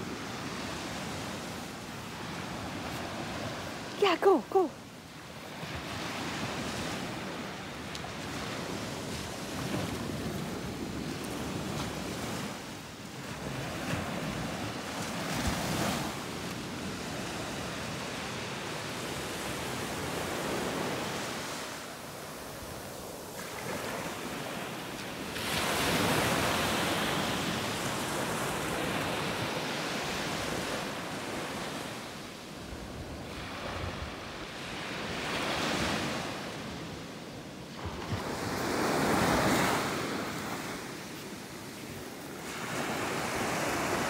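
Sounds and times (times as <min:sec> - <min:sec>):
ocean surf breaking on beach: 0:00.0 - 0:44.0.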